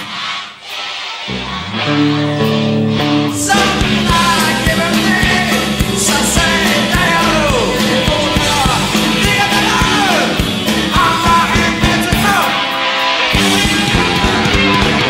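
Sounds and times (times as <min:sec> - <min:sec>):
rock song with singer: 0:01.4 - 0:15.0.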